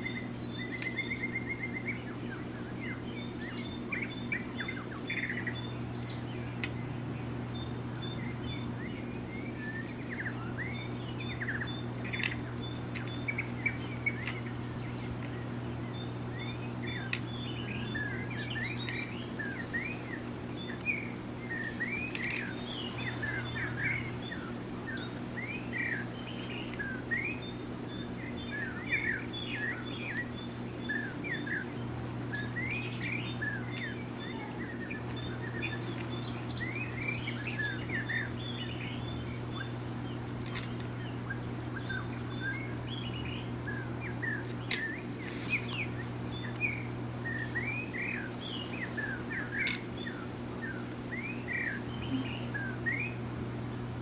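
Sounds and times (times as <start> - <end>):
small birds chirping: 0.0 - 54.0
steady low hum: 0.0 - 54.0.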